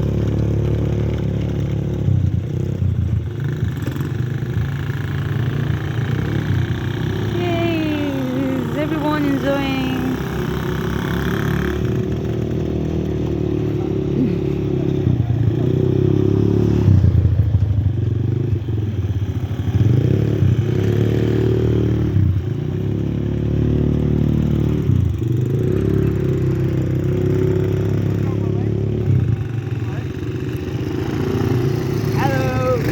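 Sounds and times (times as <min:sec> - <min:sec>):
atv engine revving: 0:00.0 - 0:32.9.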